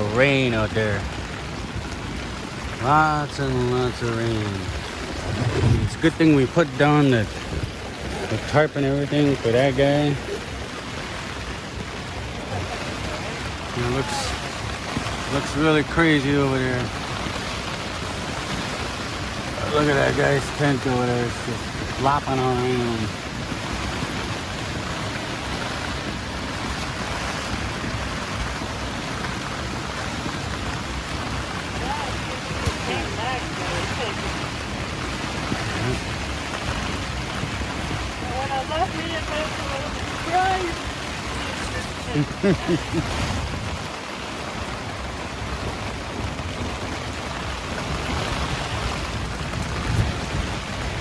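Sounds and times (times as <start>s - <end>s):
gusting wind rumbling: 0.0s - 51.0s
heavy rain hissing: 0.0s - 51.0s.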